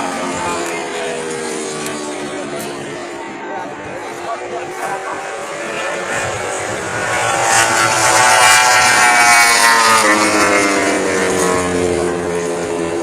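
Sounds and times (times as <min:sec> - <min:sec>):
racing motorcycle passing by: 0:00.0 - 0:13.0.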